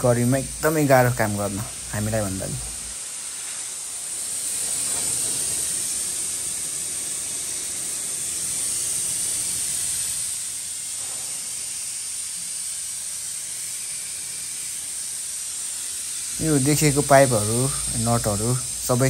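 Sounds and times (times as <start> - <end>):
air hose hissing: 0.0 - 19.0.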